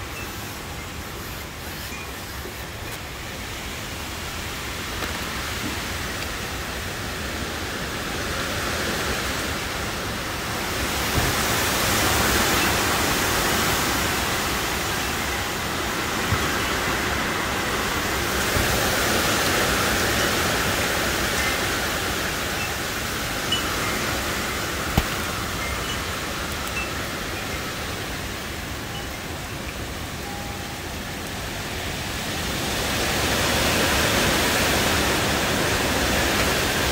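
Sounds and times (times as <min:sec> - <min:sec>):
gusting wind through leaves: 0:00.0 - 0:36.9
heavy rain: 0:00.0 - 0:36.9.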